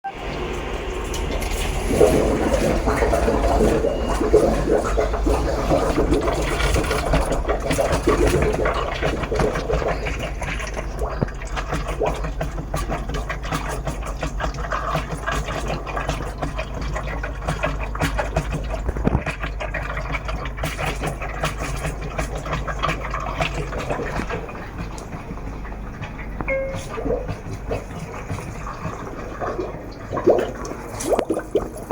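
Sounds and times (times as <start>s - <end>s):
filter motor hum: 0.0s - 31.9s.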